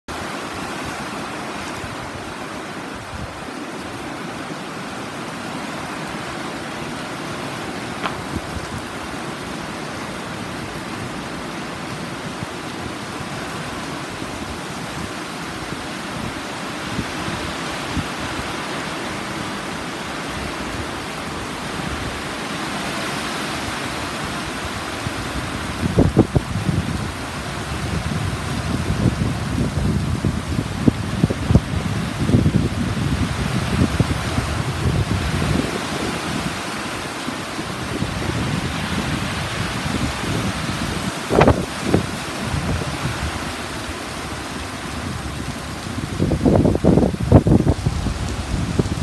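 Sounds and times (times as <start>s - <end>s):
wind gusts buffeting microphone: 0.1s - 22.5s, 23.6s - 49.0s
torrential rain on pavement: 0.1s - 49.0s.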